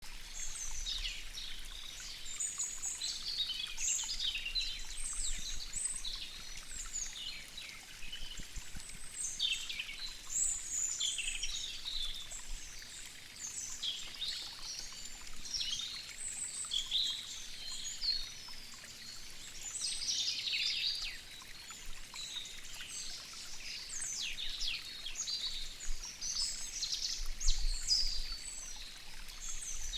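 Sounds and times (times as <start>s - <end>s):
waterfall running water: 0.0s - 29.9s
small birds chirping: 0.3s - 29.9s.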